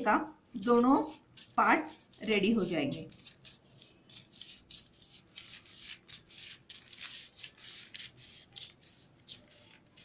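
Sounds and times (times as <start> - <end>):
scissors snipping newspaper: 0.7 - 10.0.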